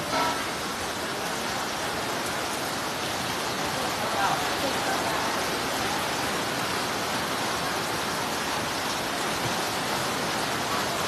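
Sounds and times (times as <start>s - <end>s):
heavy rain on tent canopy: 0.0s - 11.0s.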